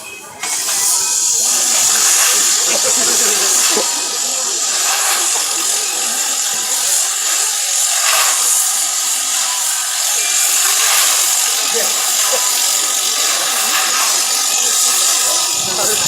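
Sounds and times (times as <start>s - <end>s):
crowd murmuring: 0.0s - 16.0s
loud steam hiss: 0.0s - 16.0s.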